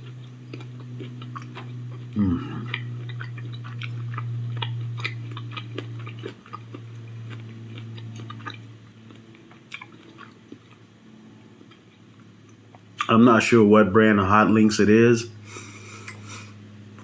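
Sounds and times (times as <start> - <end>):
person chewing: 0.0 - 10.9, 11.6 - 13.1, 15.5 - 17.0
low hum: 0.0 - 17.0.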